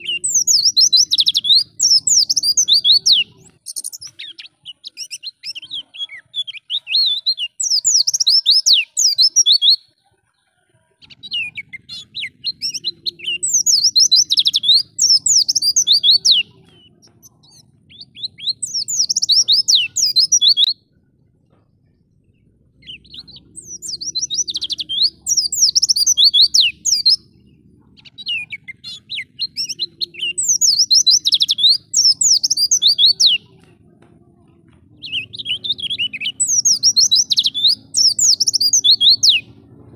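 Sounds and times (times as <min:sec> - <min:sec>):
bird twittering and warbling: 0:00.0 - 0:33.9, 0:34.5 - 0:39.9.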